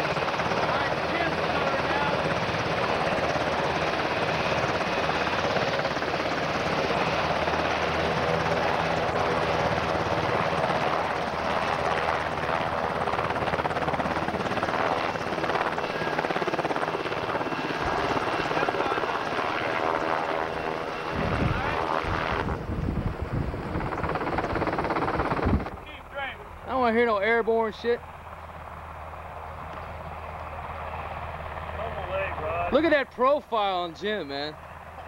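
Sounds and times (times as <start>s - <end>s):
helicopter rotor and engines: 0.0s - 35.0s.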